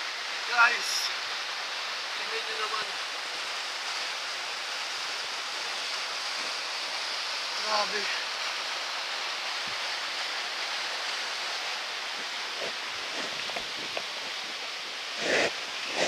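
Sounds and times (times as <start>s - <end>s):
rustle: 0.0s - 16.0s
waterfall rushing: 0.0s - 16.0s.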